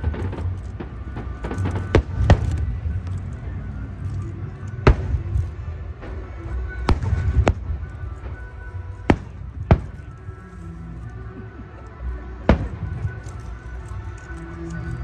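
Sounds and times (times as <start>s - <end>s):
fireworks bursting: 0.0s - 11.0s, 12.4s - 15.0s
background music: 0.0s - 15.0s.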